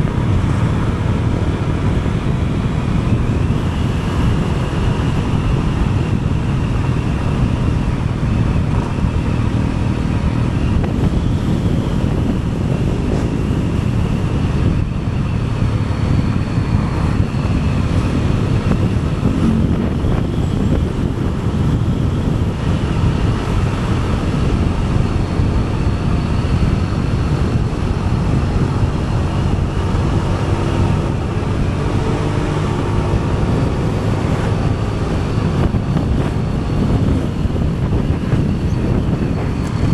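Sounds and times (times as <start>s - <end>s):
vehicle engine and tyres on road: 0.0s - 39.9s
wind rushing over microphone: 0.0s - 39.9s.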